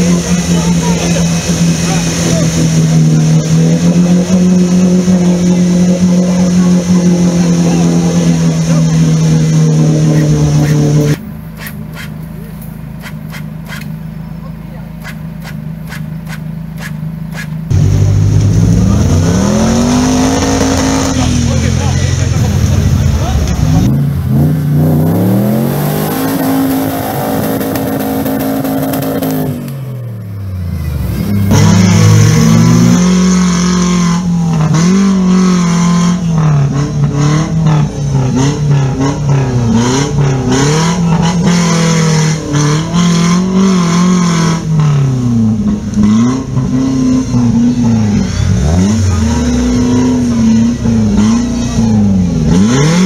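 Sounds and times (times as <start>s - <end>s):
off-road engine revving: 0.0s - 53.0s.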